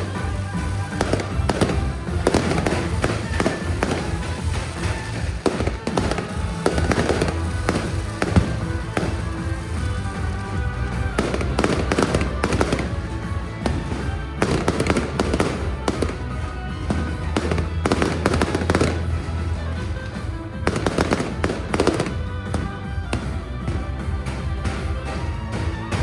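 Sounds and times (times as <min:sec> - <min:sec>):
fireworks bursting and crackling: 0:00.0 - 0:26.0
music playing: 0:00.0 - 0:26.0.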